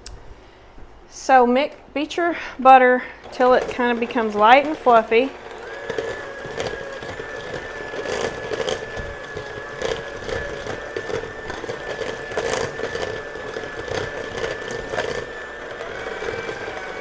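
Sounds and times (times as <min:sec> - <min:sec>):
electric mixer whine: 0:03.2 - 0:17.0.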